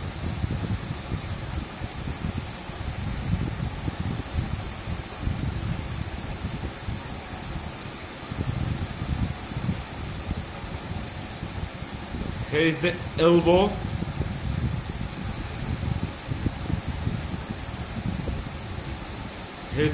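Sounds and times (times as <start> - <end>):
steady hiss: 0.0 - 19.9.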